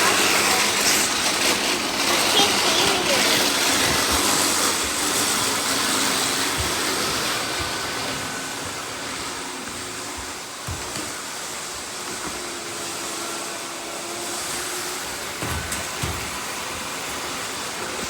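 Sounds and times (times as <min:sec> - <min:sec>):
robot vacuum cleaners running: 0:00.0 - 0:18.0.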